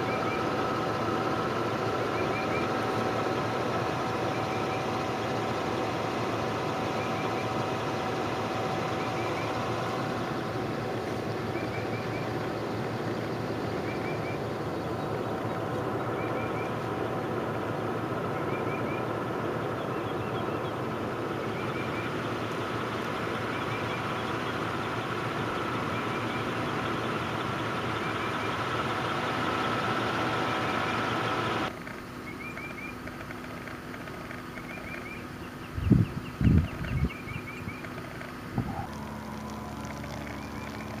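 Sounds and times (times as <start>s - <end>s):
engine running: 0.0s - 41.0s
bird chirping: 1.9s - 3.2s, 6.6s - 33.5s, 34.1s - 41.0s.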